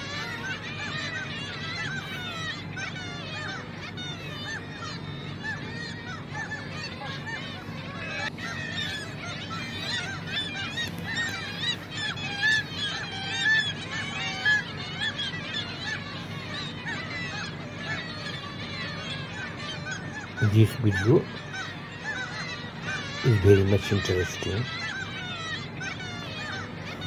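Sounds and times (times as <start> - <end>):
flock of gulls calling: 0.0 - 27.0.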